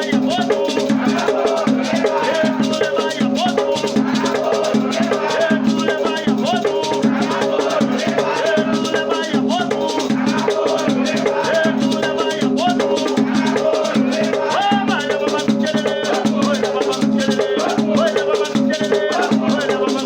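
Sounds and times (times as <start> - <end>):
hand drums playing: 0.0 - 20.0
voices singing: 0.0 - 20.0.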